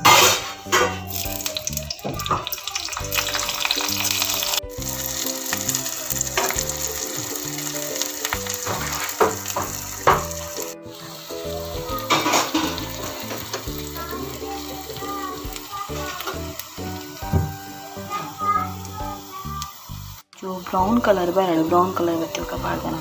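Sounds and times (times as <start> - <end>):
stirring: 0.0 - 18.8
food sizzling in oil: 0.0 - 23.0.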